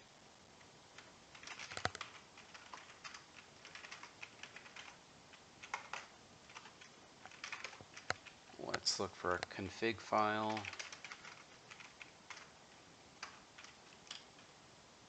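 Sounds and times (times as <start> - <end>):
typing on computer keyboard: 1.0 - 9.5, 10.2 - 12.6, 13.2 - 14.5.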